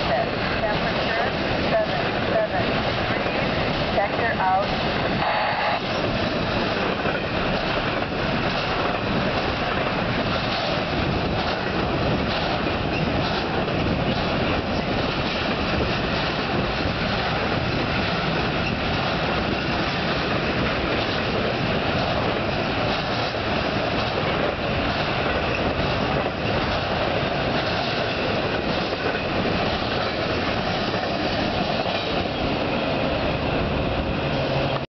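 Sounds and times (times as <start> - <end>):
freight cars rolling on rails: 0.0 - 34.9
wheels clickety-clack: 5.8 - 34.9.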